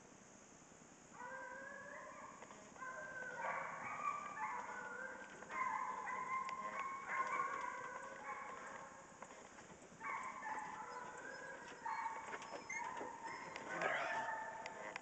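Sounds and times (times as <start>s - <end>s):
hounds baying: 1.2s - 15.0s.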